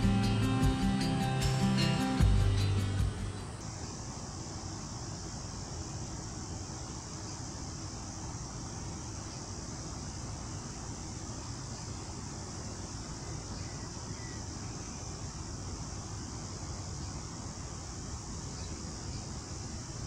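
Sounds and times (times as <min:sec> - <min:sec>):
night insects chorus: 0:00.0 - 0:20.0.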